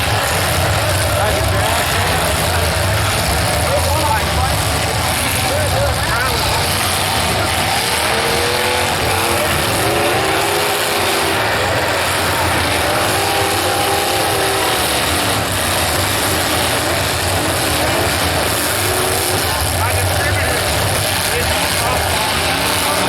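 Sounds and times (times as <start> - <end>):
car engines revving: 0.0 - 23.0
loud steady wash of noise: 0.0 - 23.0.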